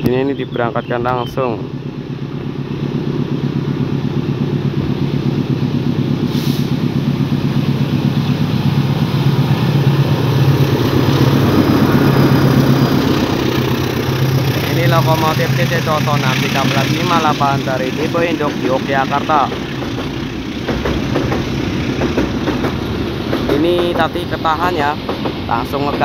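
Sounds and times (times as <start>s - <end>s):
locomotive engine at full throttle: 0.0s - 26.0s.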